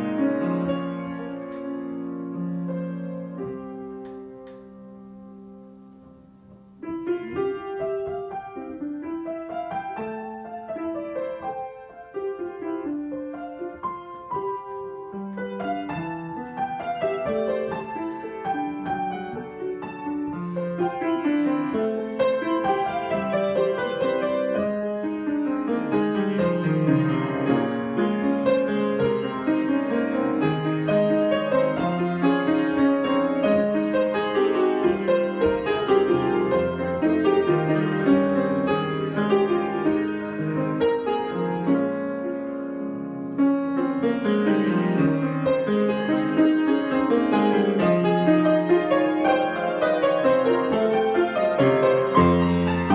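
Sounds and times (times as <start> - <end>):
solo piano: 0.0 - 52.9.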